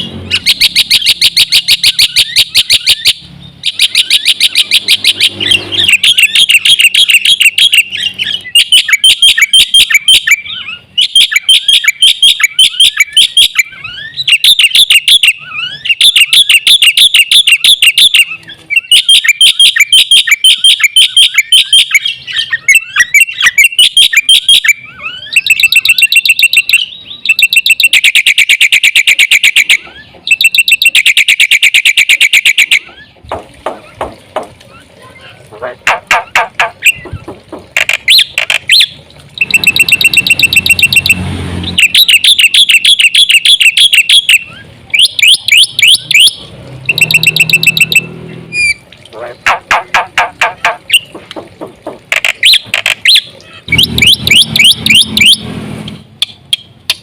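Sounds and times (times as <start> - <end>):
bird singing chattering notes: 0.0 - 55.4.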